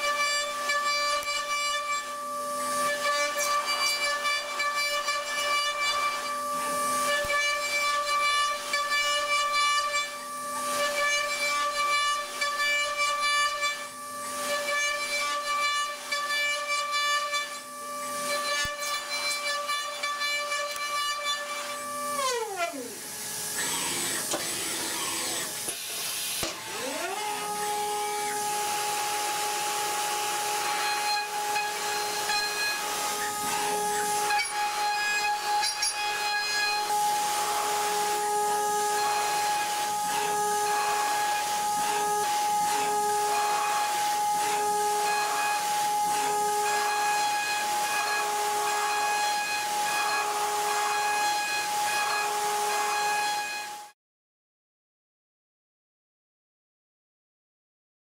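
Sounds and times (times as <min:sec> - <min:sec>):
high-pitched machine whine: 0:00.0 - 0:52.4.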